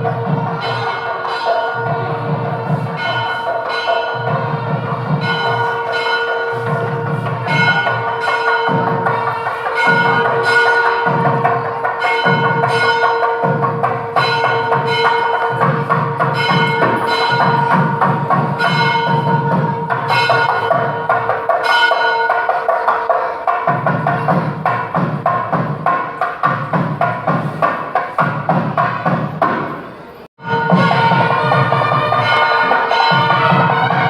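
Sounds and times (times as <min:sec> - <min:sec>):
bell-like strikes: 0:00.0 - 0:26.0, 0:30.4 - 0:34.0
steady beat: 0:00.0 - 0:34.0.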